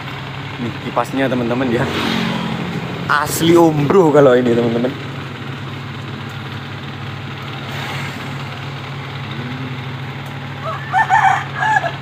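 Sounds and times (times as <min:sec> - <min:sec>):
cooling fans humming: 0:00.0 - 0:12.0.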